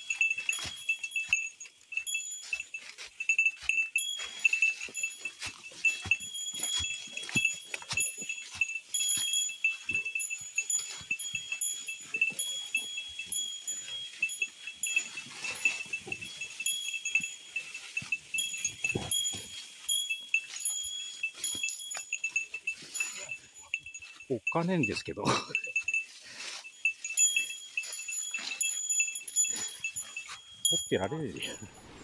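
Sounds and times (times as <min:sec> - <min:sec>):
footsteps on mountain trail: 0:00.0 - 0:32.0.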